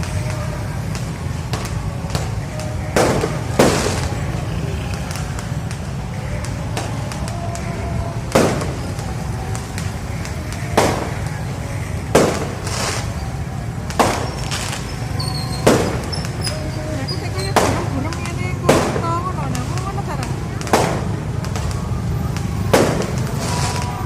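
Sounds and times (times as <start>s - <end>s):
fireworks bangs: 0.0s - 24.0s
fireworks crackles: 0.0s - 24.0s.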